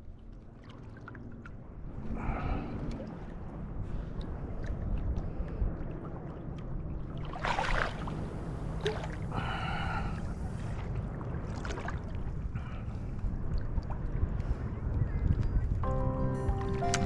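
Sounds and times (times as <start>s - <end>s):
water sloshing and lapping: 0.0s - 15.8s
water splashes: 0.0s - 15.8s.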